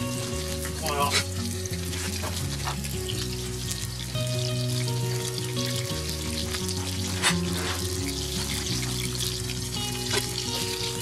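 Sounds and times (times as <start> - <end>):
background music with held notes: 0.0 - 11.0
fish sizzling in hot oil: 0.0 - 11.0
oil popping: 0.0 - 11.0.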